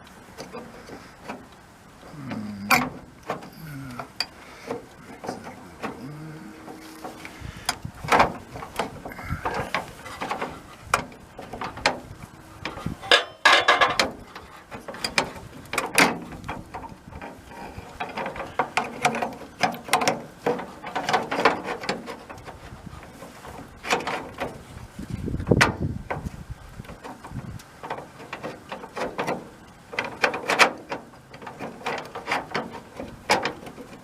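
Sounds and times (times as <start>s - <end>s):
metal latch clicks and scraping: 0.0s - 1.6s, 2.3s - 24.6s, 26.9s - 34.0s.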